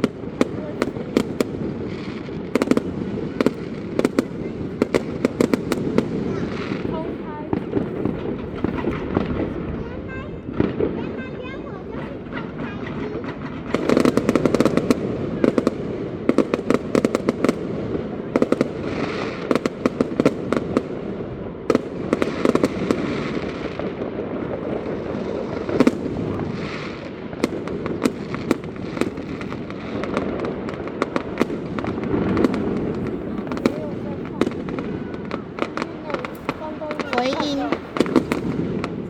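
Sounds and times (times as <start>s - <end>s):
fireworks bangs and crackling: 0.0s - 39.0s
rumble of distant fireworks: 0.0s - 39.0s.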